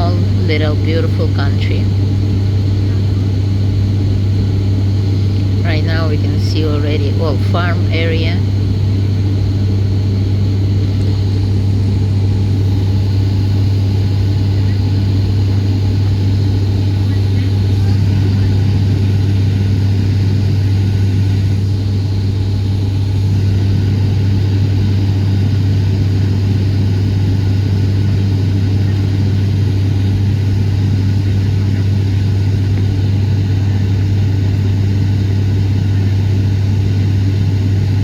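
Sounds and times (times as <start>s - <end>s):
airliner cabin engine drone: 0.0s - 38.0s.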